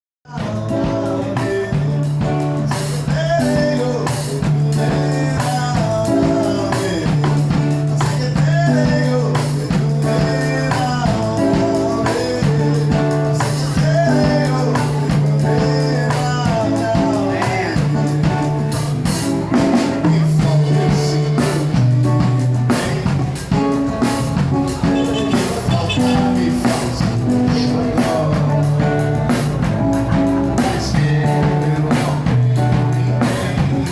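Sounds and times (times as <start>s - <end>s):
guitar: 0.2s - 33.9s
bass notes: 0.3s - 33.9s
drum kit beat: 0.3s - 33.9s
person singing: 0.3s - 33.9s.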